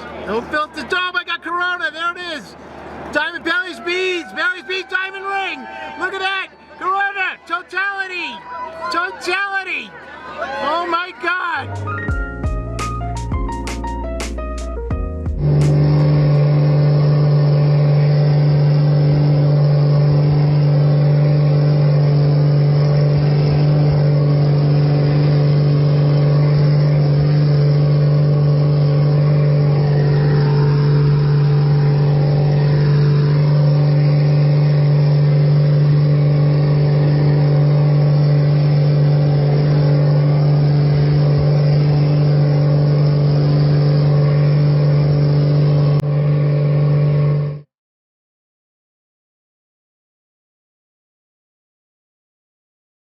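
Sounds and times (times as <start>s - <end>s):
aircraft engines droning: 0.0s - 47.5s.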